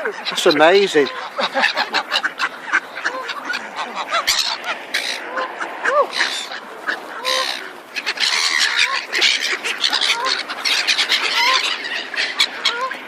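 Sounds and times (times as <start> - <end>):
waterbirds honking: 0.0 - 13.0.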